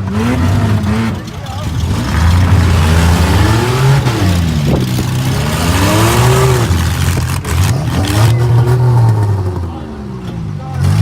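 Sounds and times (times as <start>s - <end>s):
minivan engines revving: 0.0s - 11.0s.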